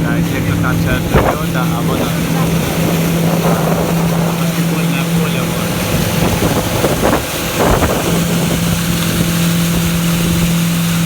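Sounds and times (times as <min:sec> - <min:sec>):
motorboat engine humming: 0:00.0 - 0:11.0
wind on microphone: 0:00.0 - 0:11.0.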